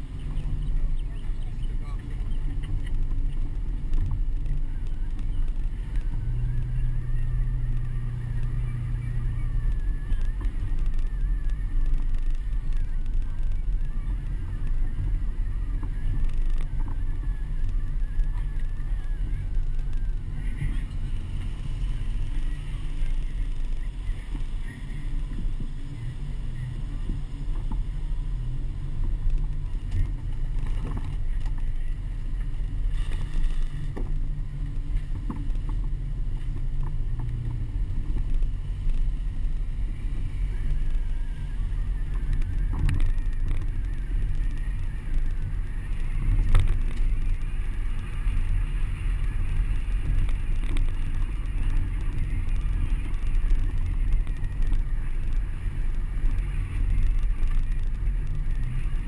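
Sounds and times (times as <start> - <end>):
car driving on muddy street: 0.0 - 59.0.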